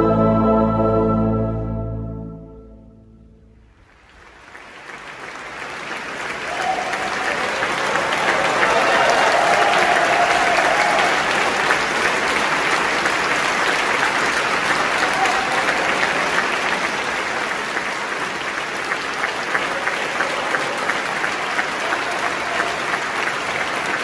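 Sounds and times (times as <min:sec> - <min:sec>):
audience applauding: 0:03.8 - 0:24.0.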